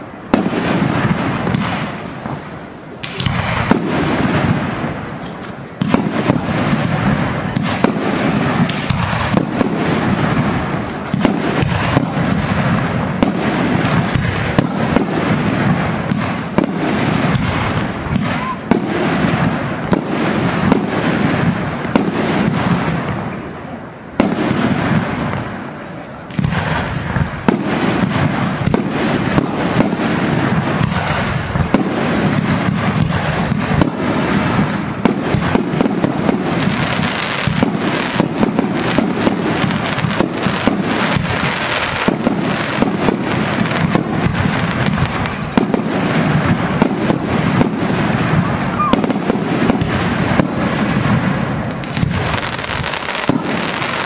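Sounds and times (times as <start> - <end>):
fireworks shells bursting: 0.0 - 54.0.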